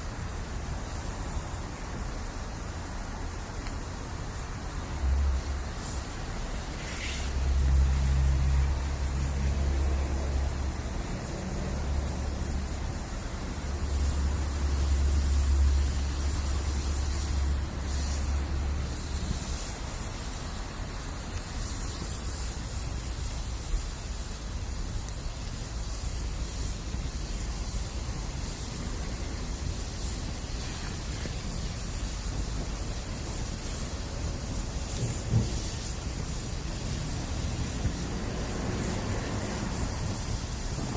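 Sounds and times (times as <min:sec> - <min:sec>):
campfire hissing: 0:00.0 - 0:40.9.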